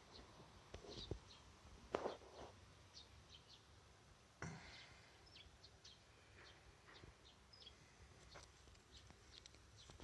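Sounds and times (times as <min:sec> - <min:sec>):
faint bird chirps: 0:00.0 - 0:03.8, 0:04.4 - 0:10.0.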